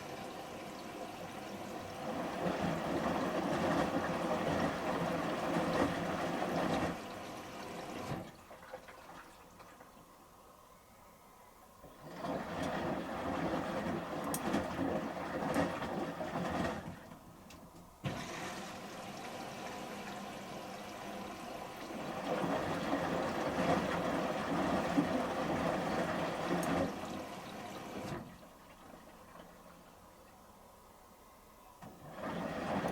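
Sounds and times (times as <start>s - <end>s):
washing machine drum sloshing water: 0.0s - 10.1s, 11.8s - 30.4s, 31.8s - 32.9s.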